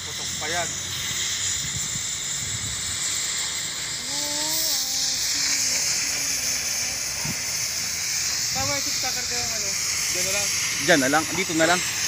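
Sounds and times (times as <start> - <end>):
cutting torch hissing: 0.0 - 12.0.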